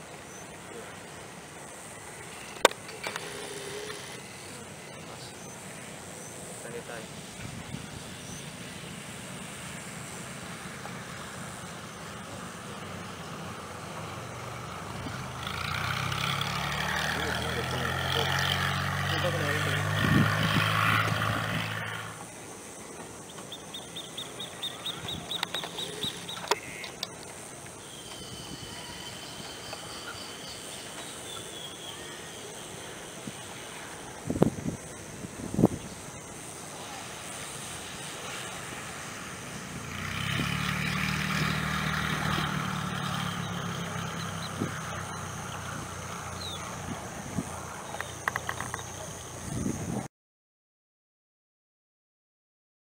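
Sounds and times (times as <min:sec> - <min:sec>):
airplane engine: 0:00.0 - 0:50.1.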